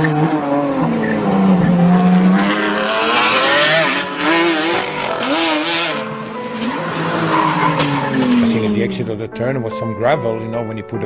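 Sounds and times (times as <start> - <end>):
race car engine revving: 0.0 - 9.1.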